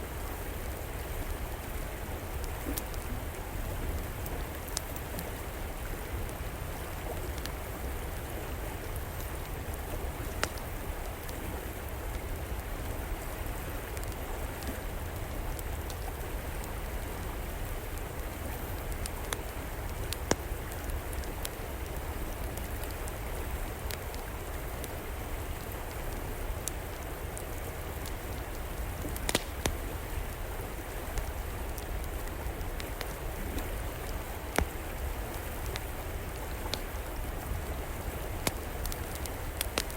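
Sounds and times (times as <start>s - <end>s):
river water flowing: 0.0s - 39.9s
wood fire popping and crackling: 0.2s - 39.9s.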